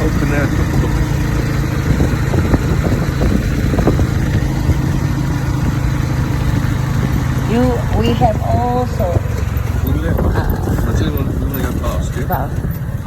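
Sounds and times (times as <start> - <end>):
auto rickshaw engine running: 0.0 - 13.0
knocks and rattles: 0.0 - 13.0
road noise: 0.0 - 13.0.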